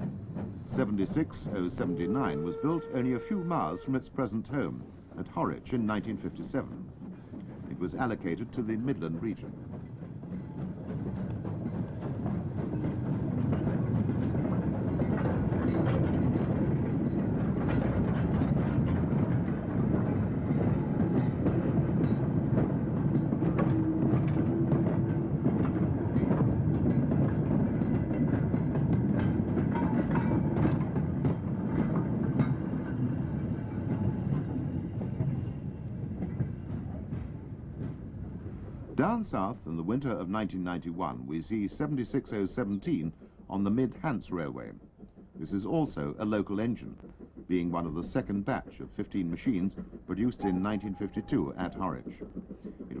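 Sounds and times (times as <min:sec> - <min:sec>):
train wheels rumbling: 0:00.0 - 0:53.0
wagons clanking over rail joints: 0:00.0 - 0:53.0.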